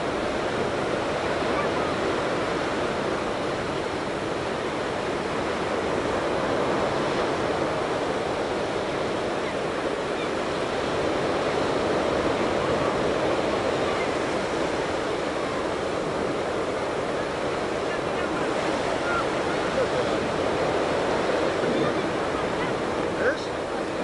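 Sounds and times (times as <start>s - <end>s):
ocean surf: 0.0s - 24.0s
wind: 0.0s - 24.0s.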